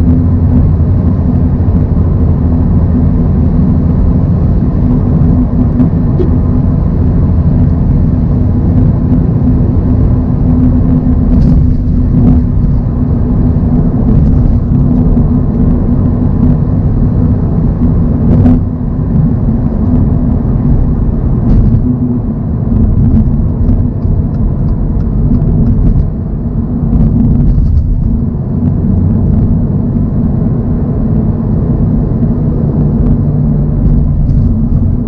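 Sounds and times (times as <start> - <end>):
car engine droning at cruise: 0.0 - 35.0
steady tone: 0.0 - 35.0.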